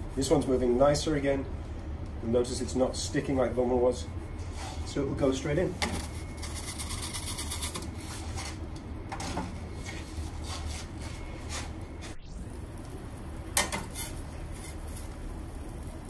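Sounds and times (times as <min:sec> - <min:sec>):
gas flame rumbling: 0:00.0 - 0:16.0.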